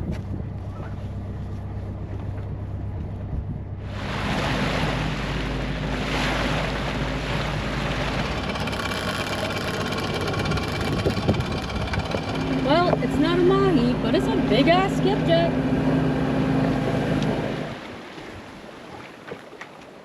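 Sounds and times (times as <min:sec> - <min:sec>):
boat engine humming: 0:00.0 - 0:20.0
rush of wind and water: 0:03.8 - 0:20.0.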